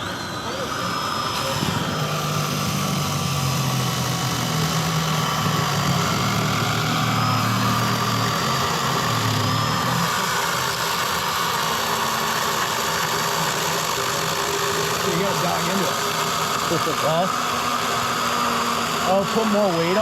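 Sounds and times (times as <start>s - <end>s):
motor running with low hum: 0.0s - 20.0s.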